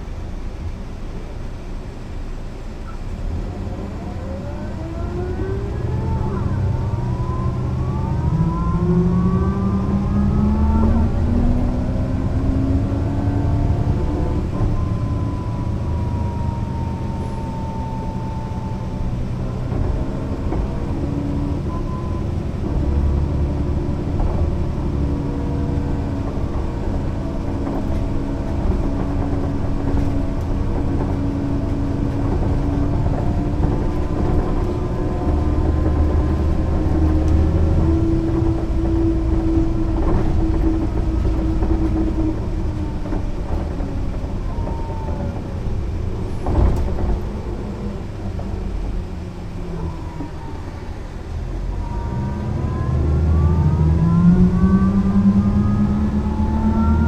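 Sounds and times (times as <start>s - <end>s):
bus diesel engine whine: 0.0s - 57.0s.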